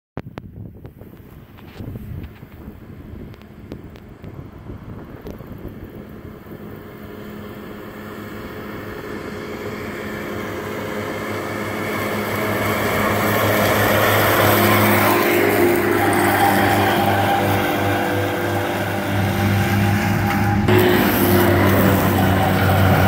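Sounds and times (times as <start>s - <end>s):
tractor engine running under load: 0.8s - 23.0s.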